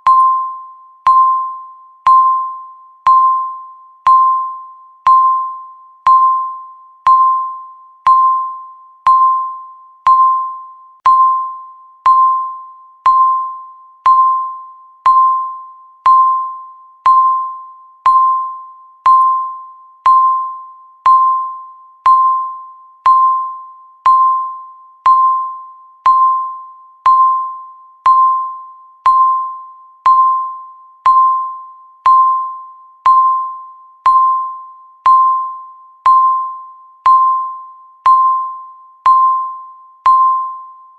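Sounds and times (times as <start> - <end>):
electronic timer ding: 0.0 - 40.9.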